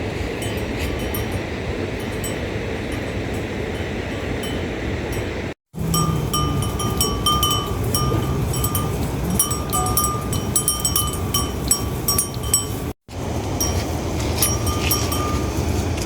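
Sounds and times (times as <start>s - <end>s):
small metal bell clanking: 0.3s - 12.9s, 13.6s - 15.7s.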